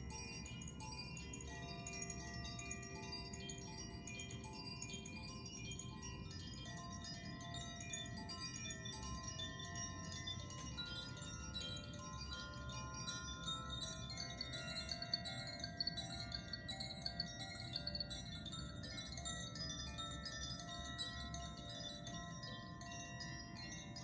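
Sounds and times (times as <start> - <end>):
wind chimes ringing: 0.0 - 24.0.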